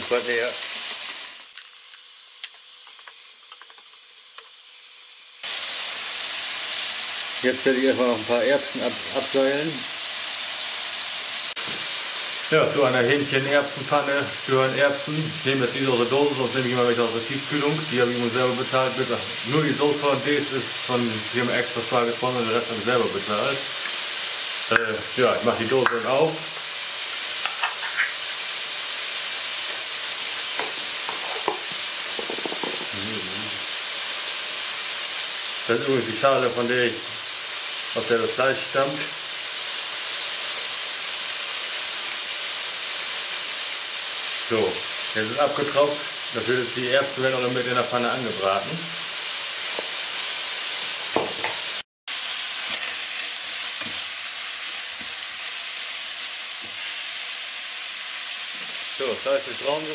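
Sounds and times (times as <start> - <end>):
chicken sizzling in a frying pan: 0.0 - 59.9.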